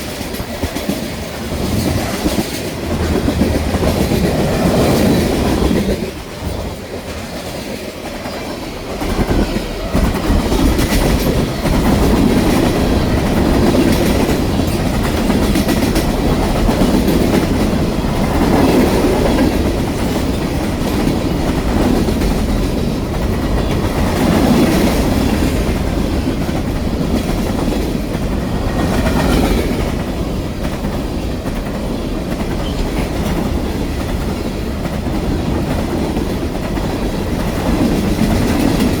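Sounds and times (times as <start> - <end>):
freight train cars rolling on rails: 0.0 - 39.0.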